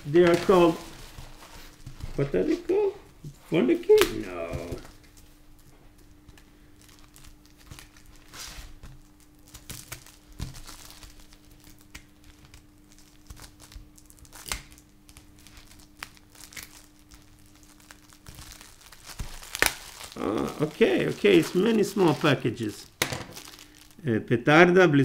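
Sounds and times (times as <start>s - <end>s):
packaging crinkling and tearing: 0.0s - 2.9s, 3.6s - 24.0s
faint steady hum: 0.0s - 25.0s.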